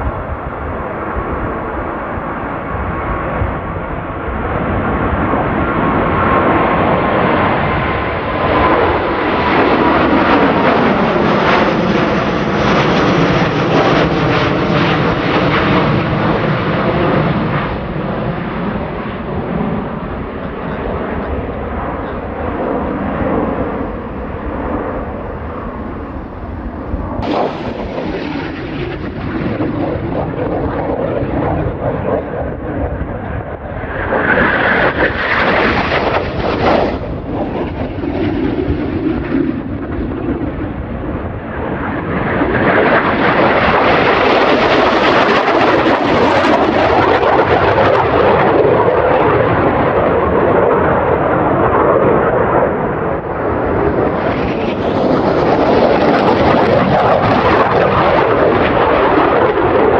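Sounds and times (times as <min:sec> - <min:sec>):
airliner jet engines at takeoff: 0:00.0 - 0:59.9
jet aircraft engines: 0:00.0 - 0:59.9.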